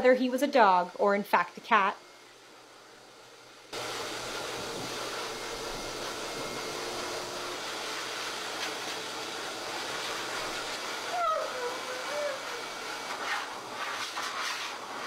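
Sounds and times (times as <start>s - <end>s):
pet dryer blowing air: 0.1s - 15.0s.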